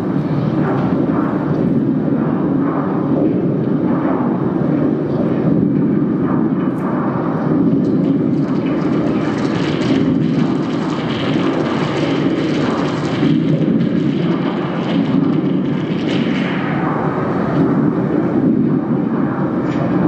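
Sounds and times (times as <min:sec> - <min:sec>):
low rumbling hissing noise: 0:00.0 - 0:20.0.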